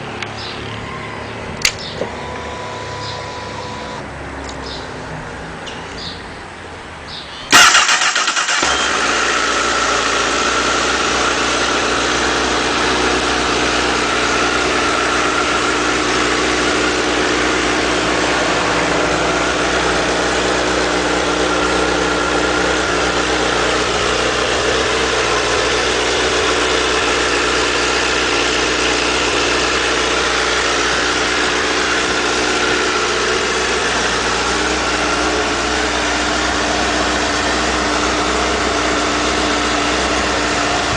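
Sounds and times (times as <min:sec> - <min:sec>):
motorcycle engine starting and idling: 0:07.1 - 0:40.9.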